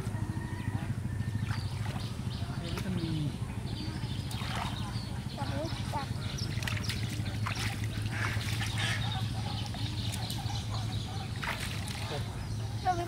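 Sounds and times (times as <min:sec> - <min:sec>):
steady low hum: 0:00.0 - 0:13.0
water splashing and trickling: 0:01.4 - 0:13.0.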